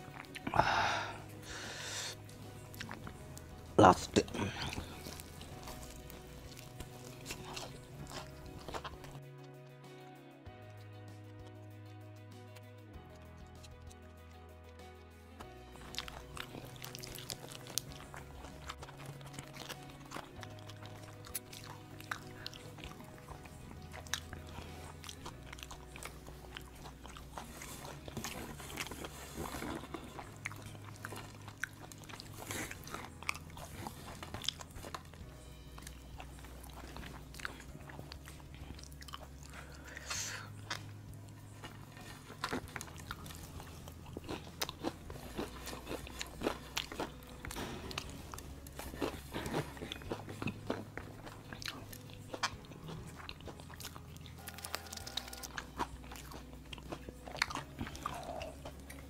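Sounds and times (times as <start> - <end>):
crunching and chewing: 0.0 - 9.2, 15.4 - 59.0
background music with bass: 0.0 - 59.0.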